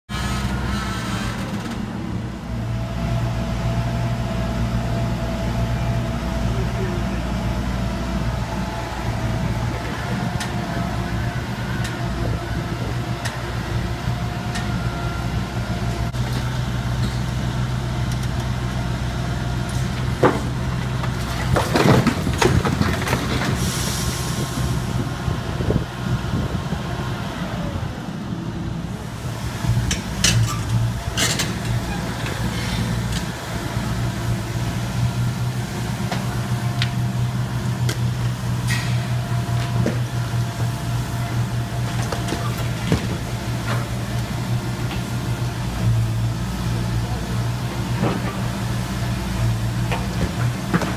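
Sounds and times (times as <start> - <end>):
diesel engine running: 0.1 - 50.9.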